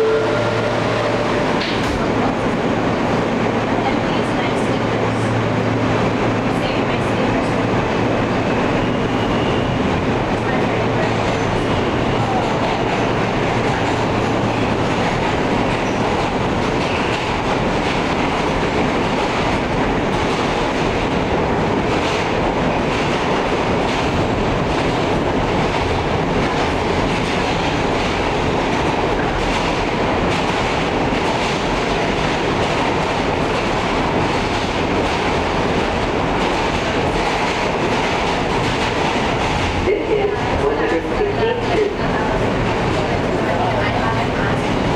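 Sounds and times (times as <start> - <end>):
rail joint clicks: 0.0 - 2.6, 10.0 - 44.9
steel wheels rumbling on rails: 0.0 - 44.9.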